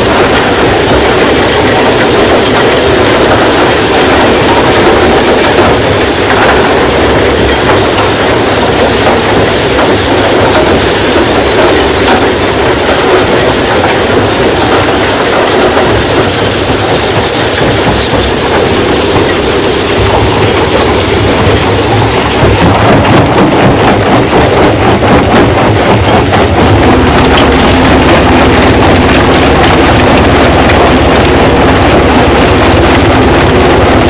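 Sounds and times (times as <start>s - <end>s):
rock crushing machine rumbling: 0.0s - 34.0s.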